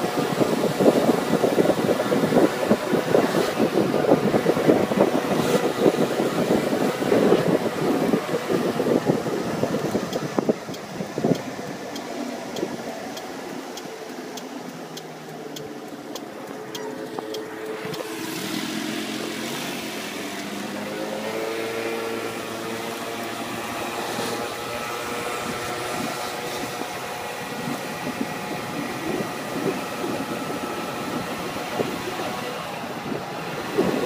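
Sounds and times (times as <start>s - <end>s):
moped engine idling and revving: 0.0s - 34.0s
wind buffeting microphone: 0.0s - 34.0s.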